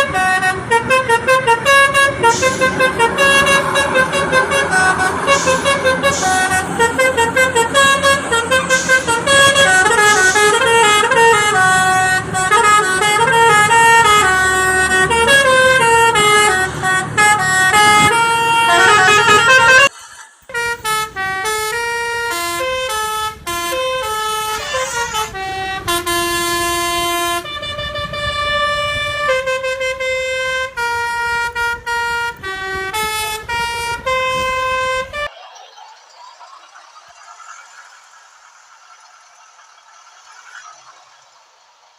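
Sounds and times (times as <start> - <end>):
multi-tone truck horn melody: 0.0 - 35.3
road and engine noise: 0.0 - 41.9.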